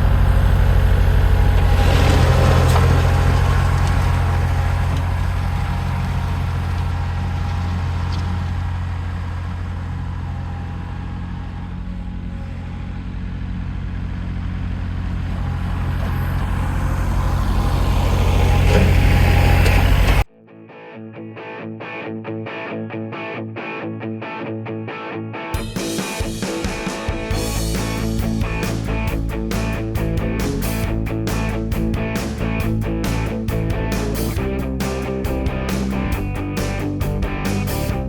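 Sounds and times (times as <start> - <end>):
diesel engine running: 0.0 - 20.3, 27.2 - 38.0.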